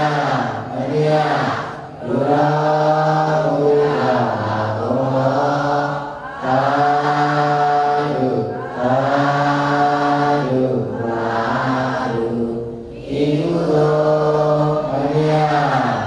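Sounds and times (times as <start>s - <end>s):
low devotional chanting: 0.0s - 16.0s.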